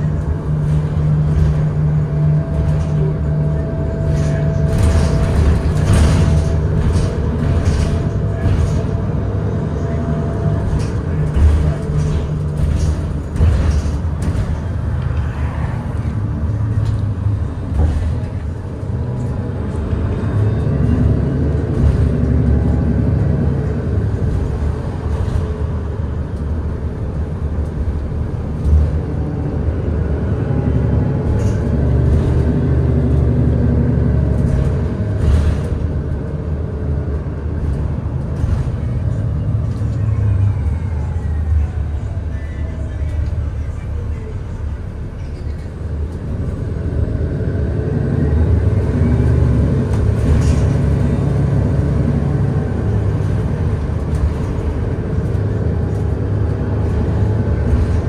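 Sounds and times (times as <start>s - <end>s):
bus road and drivetrain rumble: 0.0s - 58.0s.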